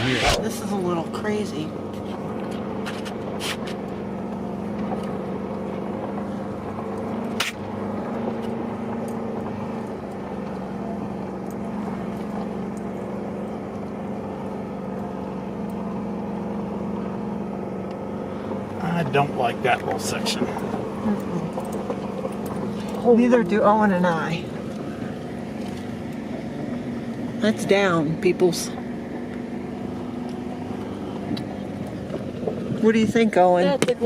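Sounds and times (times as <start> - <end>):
truck engine running at low speed: 0.0 - 34.0.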